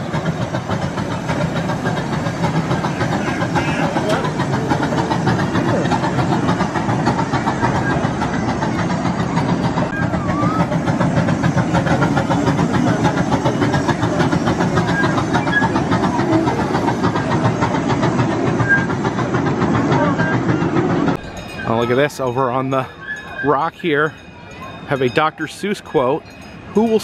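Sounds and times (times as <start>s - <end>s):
train cars rumbling on track: 0.0s - 27.0s
train engine running: 0.0s - 27.0s.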